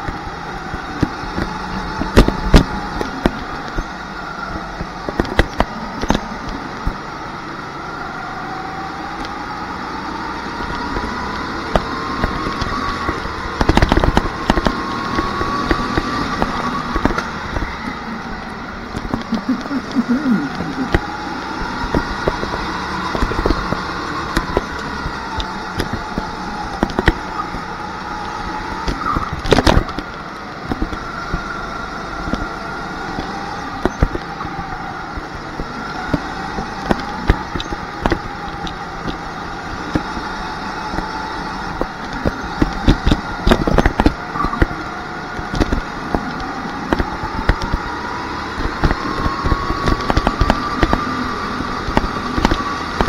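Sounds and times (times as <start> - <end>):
go-kart motor: 0.0 - 53.0.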